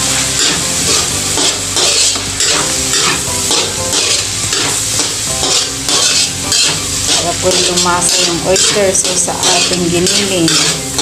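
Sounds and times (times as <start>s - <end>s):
meat sizzling: 0.0s - 11.0s
spatula scraping a metal wok: 0.0s - 11.0s.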